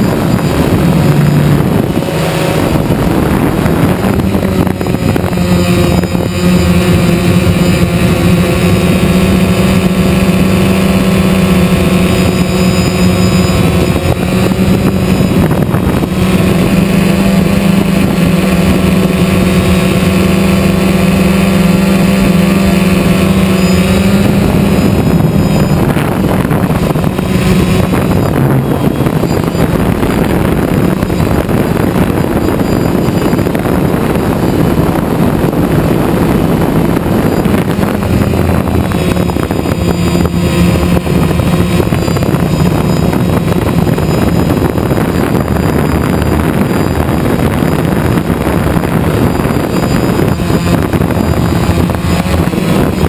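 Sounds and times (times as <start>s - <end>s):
drone propellers buzzing: 0.0s - 53.0s
wind on microphone: 0.0s - 53.0s.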